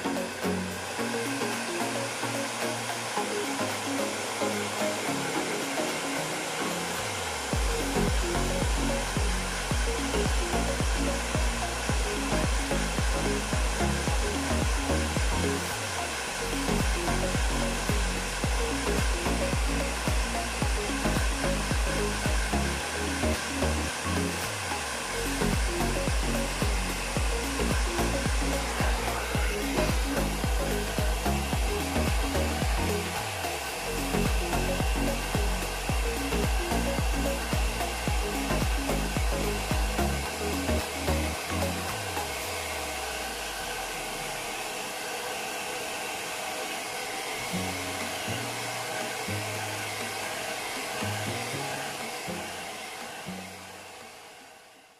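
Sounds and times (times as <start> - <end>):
electric blower running: 0.0 - 54.9.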